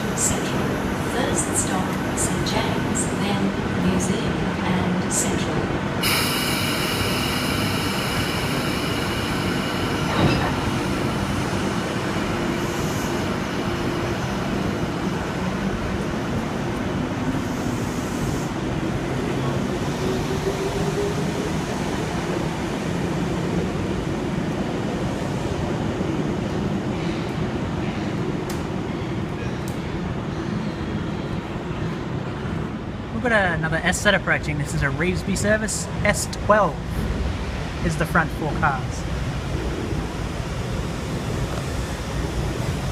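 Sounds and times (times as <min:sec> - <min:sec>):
electric train rumble: 0:00.0 - 0:42.9.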